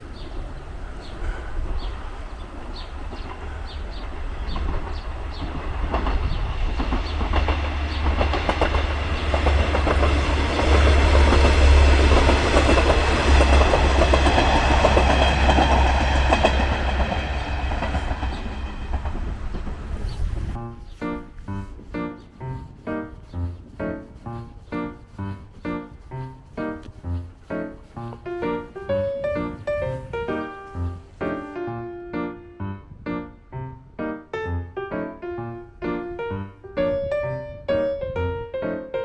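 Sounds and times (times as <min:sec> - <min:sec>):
train wheel clatter: 0:00.0 - 0:32.4
diesel train engine rumble: 0:00.0 - 0:38.6.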